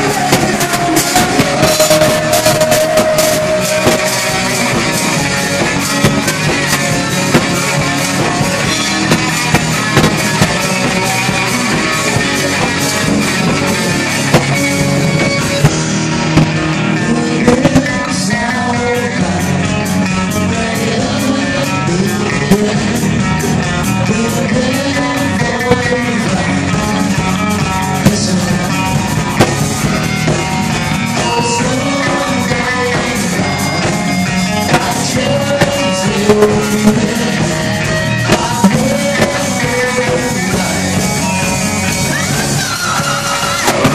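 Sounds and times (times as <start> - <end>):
drum kit: 0.0 - 43.9
electric guitar: 0.0 - 43.9.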